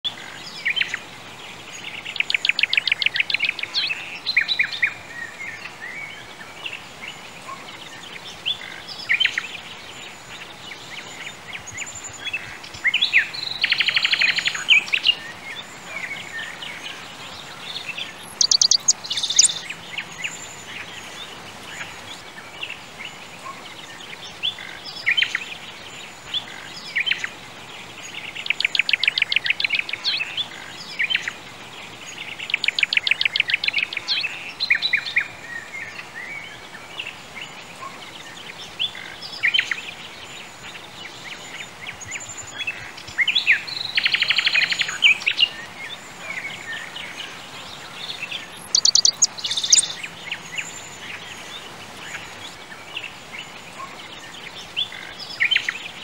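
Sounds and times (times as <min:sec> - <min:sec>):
songbirds chirping and singing: 0:00.0 - 0:56.0
background hiss: 0:00.1 - 0:56.0.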